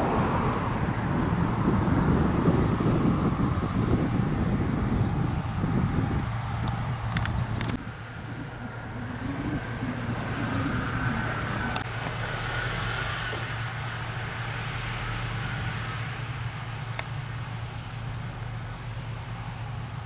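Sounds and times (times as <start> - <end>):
combine harvester engine droning: 0.0 - 20.0.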